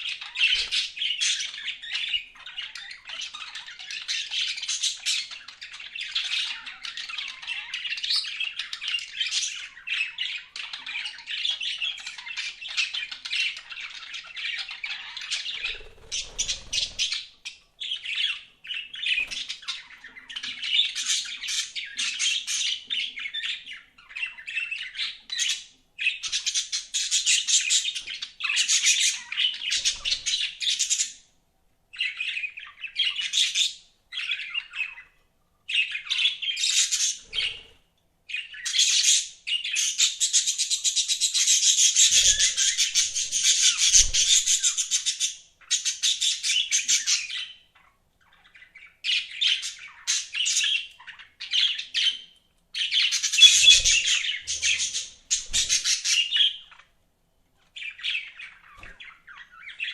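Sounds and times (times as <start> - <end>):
budgerigars chattering and chirping: 0.0 - 31.2, 32.0 - 56.9, 57.8 - 59.9.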